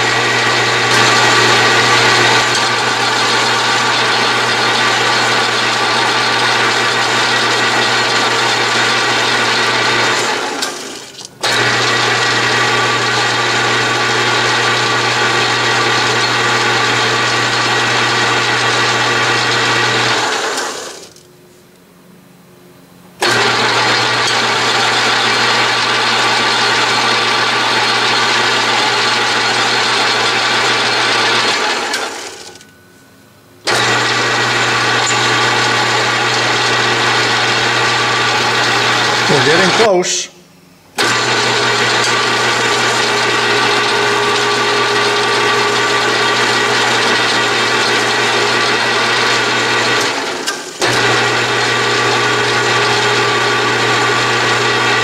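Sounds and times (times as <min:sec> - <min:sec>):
metal lathe running: 0:00.0 - 0:21.1, 0:23.2 - 0:32.6, 0:33.7 - 0:40.2, 0:41.0 - 0:55.0.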